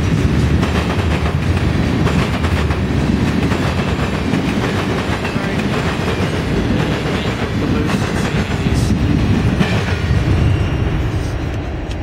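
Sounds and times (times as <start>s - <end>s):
freight cars rumbling on rails: 0.0s - 12.0s.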